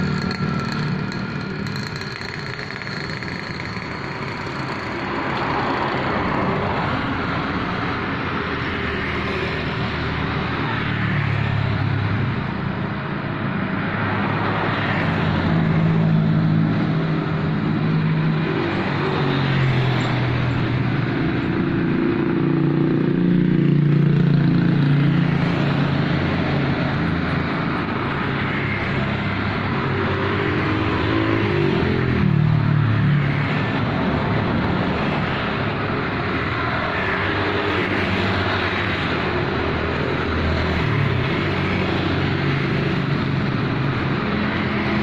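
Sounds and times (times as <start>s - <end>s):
vehicles passing close by: 0.0s - 45.0s.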